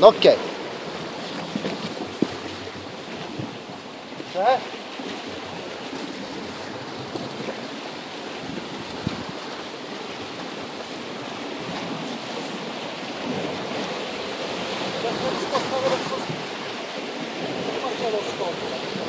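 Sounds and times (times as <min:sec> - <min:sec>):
surf washing against rocks: 0:00.0 - 0:19.0
wind on microphone: 0:00.6 - 0:04.2, 0:05.0 - 0:18.1.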